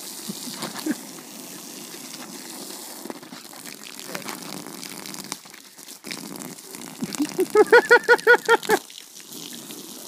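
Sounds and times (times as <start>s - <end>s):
garden hose spraying water: 0.0s - 10.0s.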